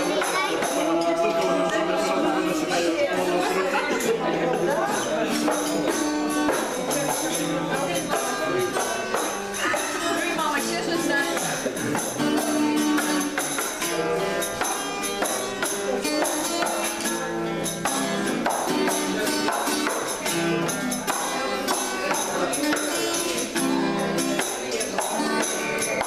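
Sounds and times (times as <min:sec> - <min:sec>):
upbeat song with steady beat: 0:00.0 - 0:26.0.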